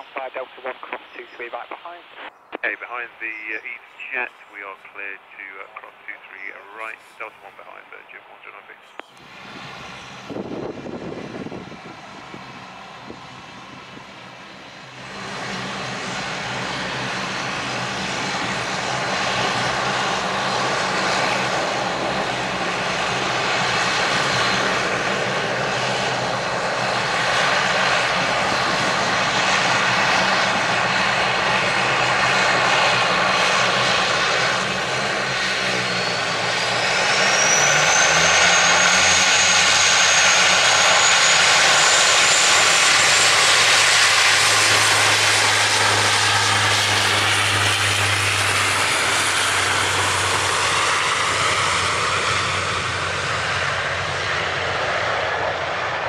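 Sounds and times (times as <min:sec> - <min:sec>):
high engine whine: 0:00.0 - 0:56.0
jet engines running: 0:00.0 - 0:56.0.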